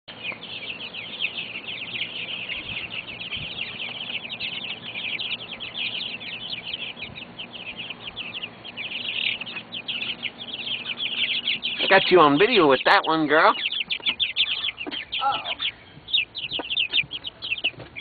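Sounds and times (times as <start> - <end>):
chicks peeping: 0.1 - 18.0.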